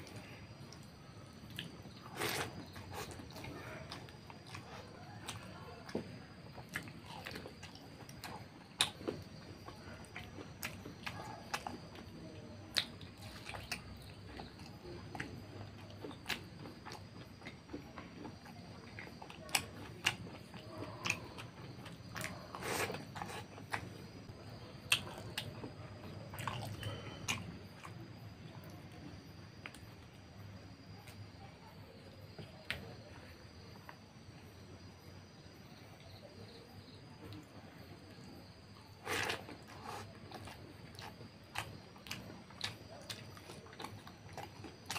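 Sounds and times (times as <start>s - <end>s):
close chewing: 0.0s - 31.4s, 37.2s - 44.9s.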